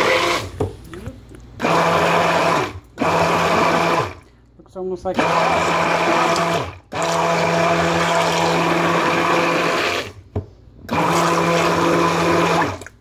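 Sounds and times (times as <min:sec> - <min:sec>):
stick blender humming: 0:00.0 - 0:04.3, 0:05.0 - 0:13.0.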